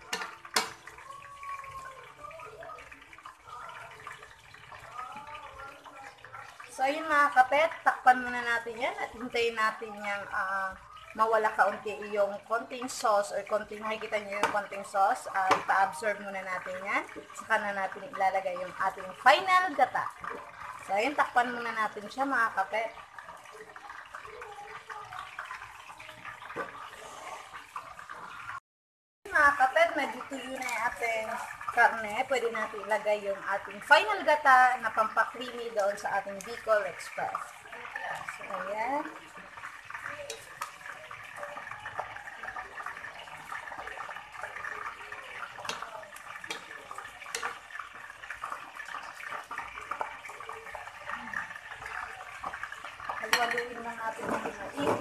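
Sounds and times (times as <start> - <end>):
sauce bubbling and sizzling in a pan: 0.0 - 28.6, 29.3 - 55.0.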